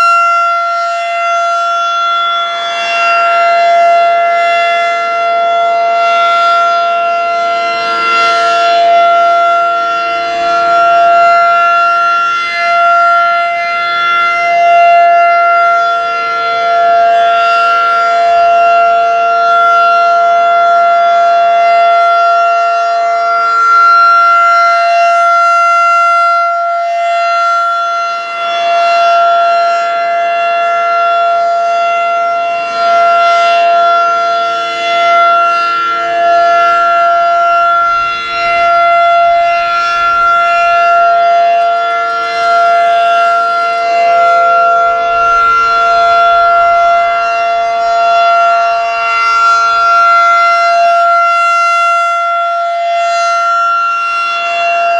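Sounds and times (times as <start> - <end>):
steady warning siren tone: 0.0 - 54.9.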